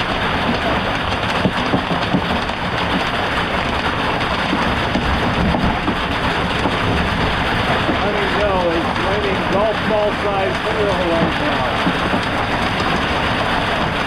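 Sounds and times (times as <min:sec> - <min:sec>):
hail clattering: 0:00.0 - 0:14.0.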